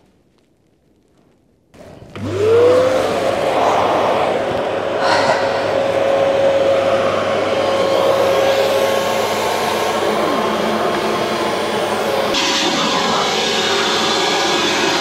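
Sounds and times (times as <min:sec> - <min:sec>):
vacuum cleaner running: 0:02.0 - 0:15.0.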